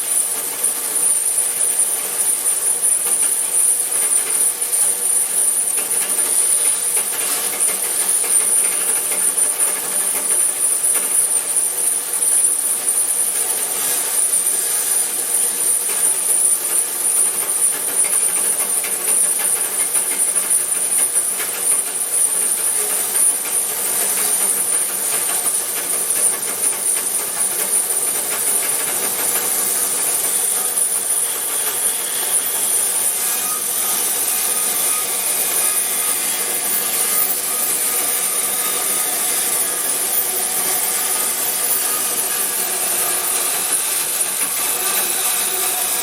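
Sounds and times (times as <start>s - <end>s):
band saw cutting timber: 0.0s - 46.0s.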